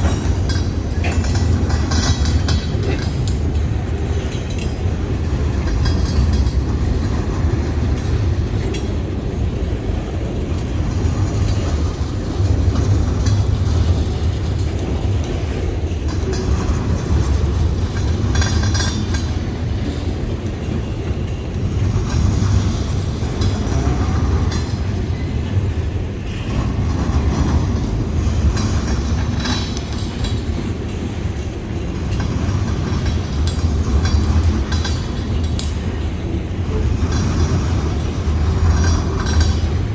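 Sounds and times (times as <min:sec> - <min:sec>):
freight train low rumble: 0:00.0 - 0:39.9
wheels clicking over rail joints: 0:00.0 - 0:39.9.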